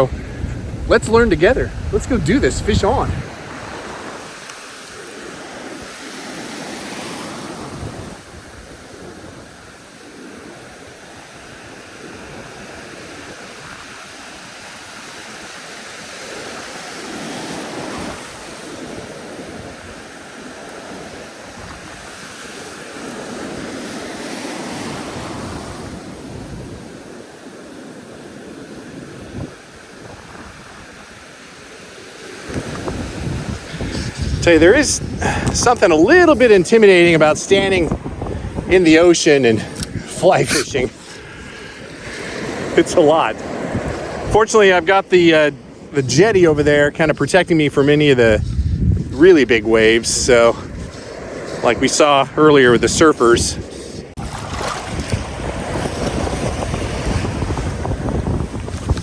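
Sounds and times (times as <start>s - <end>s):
surf waves breaking: 0.0s - 59.0s.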